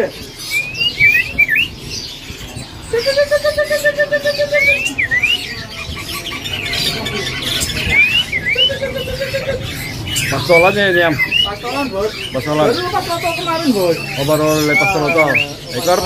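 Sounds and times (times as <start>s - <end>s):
songbirds whistling: 0.0s - 16.0s
low pulsed bird trill: 0.3s - 16.0s.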